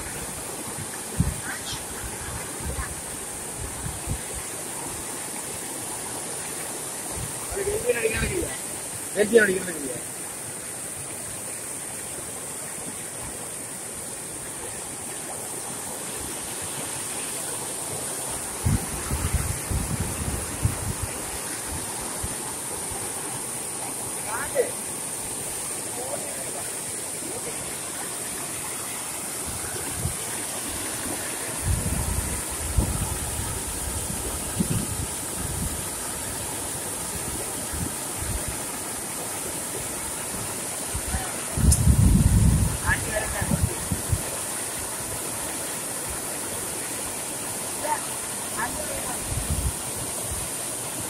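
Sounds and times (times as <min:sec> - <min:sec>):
water rushing over spillway: 0:00.0 - 0:51.0.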